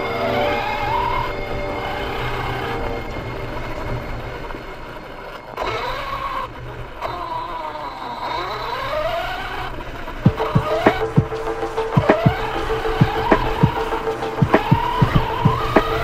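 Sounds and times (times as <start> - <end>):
toy truck motor whining: 0.0 - 16.0
tyres rumbling on ground: 0.0 - 16.0.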